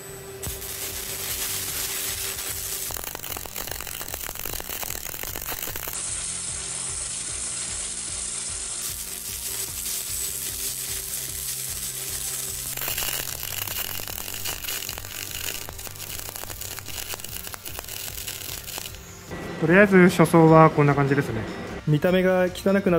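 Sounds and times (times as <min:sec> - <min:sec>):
welding arc crackling: 0:00.4 - 0:19.4.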